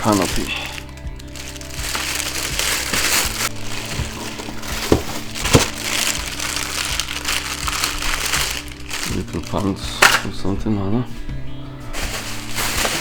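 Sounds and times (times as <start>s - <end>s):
plastic packaging crinkling: 0.0s - 10.4s, 11.9s - 13.0s
background music: 0.0s - 13.0s.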